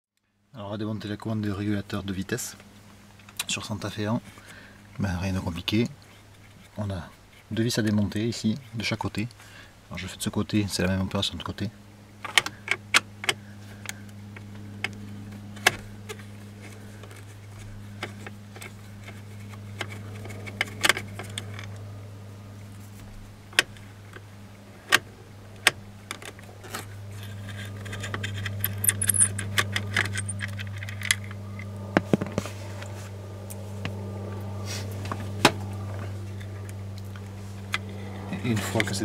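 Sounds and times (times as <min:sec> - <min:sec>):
low steady hum: 0:00.2 - 0:39.0.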